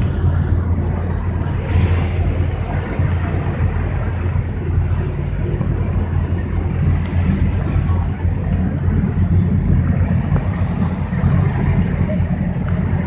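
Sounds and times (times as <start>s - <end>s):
motorboat engine droning: 0.0s - 13.0s
water rushing: 0.0s - 13.0s
wind noise: 0.0s - 13.0s.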